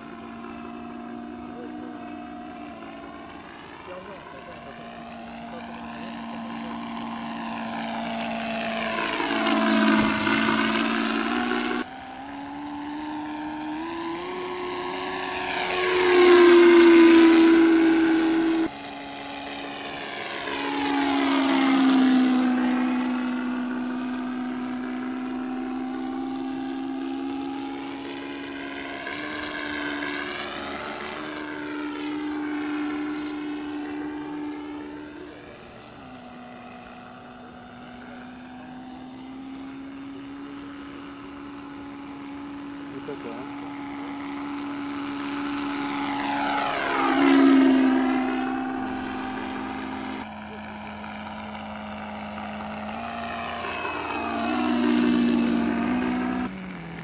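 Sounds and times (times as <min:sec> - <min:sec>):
distorted simulated aircraft engine: 0:00.0 - 0:57.0.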